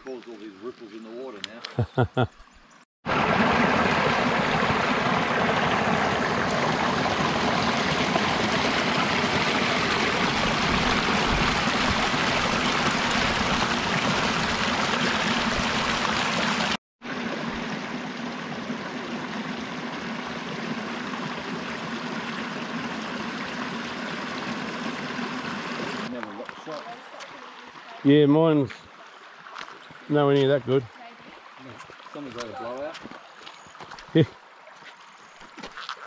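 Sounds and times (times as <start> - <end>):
creek water rushing over rocks: 3.1 - 34.8.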